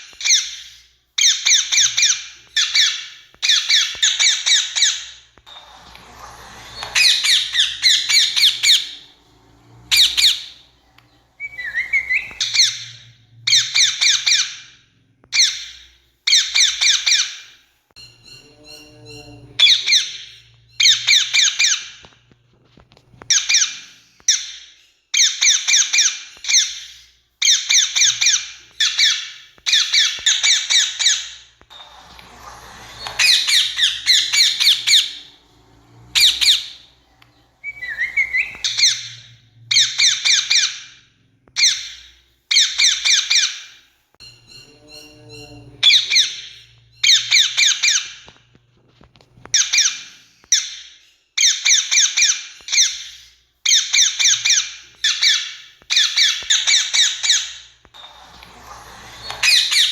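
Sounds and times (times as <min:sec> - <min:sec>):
parakeets screeching: 0:00.0 - 0:22.2, 0:22.9 - 0:48.4, 0:49.5 - 0:59.9.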